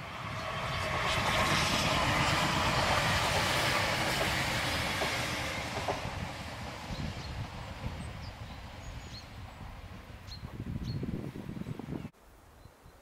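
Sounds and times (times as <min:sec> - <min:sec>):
diesel train passing: 0:00.0 - 0:10.8.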